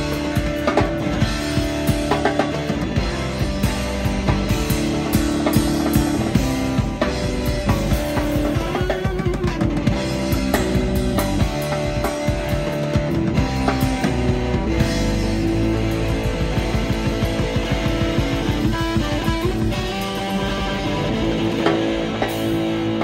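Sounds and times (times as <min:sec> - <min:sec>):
bass guitar: 0:00.0 - 0:23.0
drum kit steady beat: 0:00.0 - 0:23.0
electric guitar bending notes: 0:00.0 - 0:23.0.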